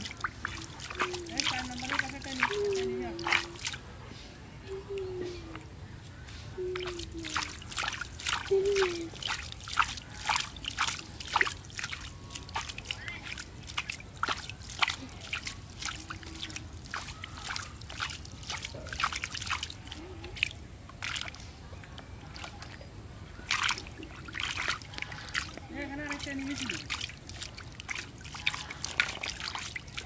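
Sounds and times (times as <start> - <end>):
water trickling: 0.0 - 3.9, 6.6 - 30.0
water splashing and sloshing: 0.0 - 4.0, 6.4 - 30.0.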